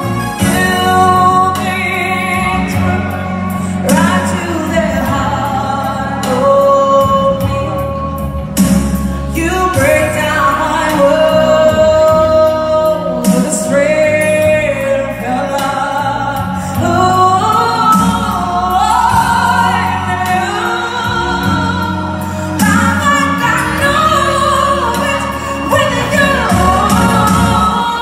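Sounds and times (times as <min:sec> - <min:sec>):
backing music: 0:00.0 - 0:28.0
woman singing through microphone: 0:00.0 - 0:28.0.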